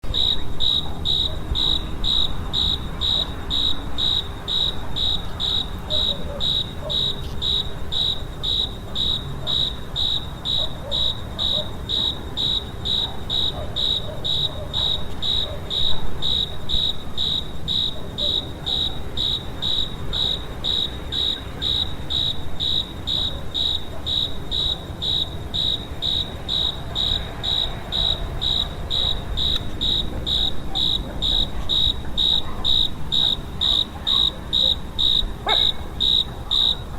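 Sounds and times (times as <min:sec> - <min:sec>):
cricket chirping: 0:00.0 - 0:36.9.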